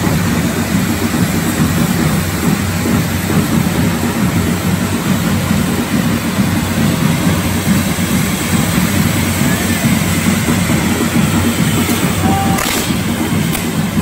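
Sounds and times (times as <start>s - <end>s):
firework fountains hissing: 0.0s - 14.0s.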